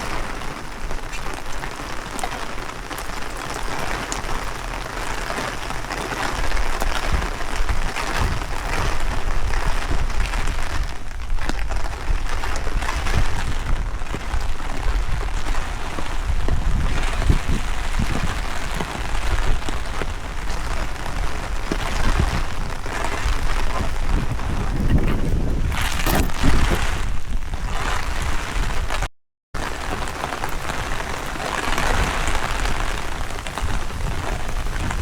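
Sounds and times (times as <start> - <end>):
heavy rain falling: 0.0 - 35.0
wind buffeting microphone: 0.0 - 35.0.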